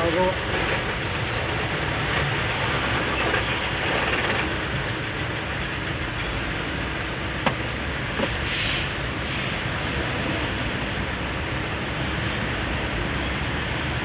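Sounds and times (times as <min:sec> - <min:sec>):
traffic engines idling and crawling: 0:00.0 - 0:14.0.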